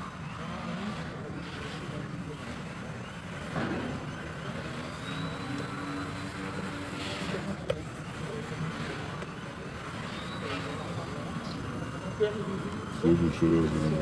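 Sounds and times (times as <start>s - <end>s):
model airplane motor buzzing: 0.0s - 14.0s.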